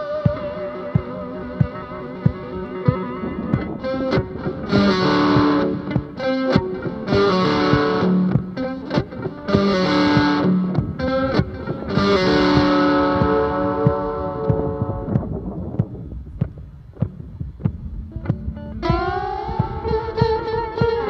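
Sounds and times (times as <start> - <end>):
guitar music: 0.0 - 21.0.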